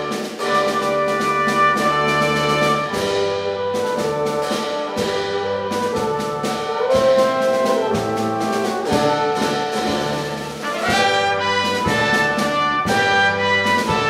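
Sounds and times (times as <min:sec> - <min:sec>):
brass and woodwind ensemble: 0:00.0 - 0:14.0
held brass chords: 0:00.0 - 0:14.0.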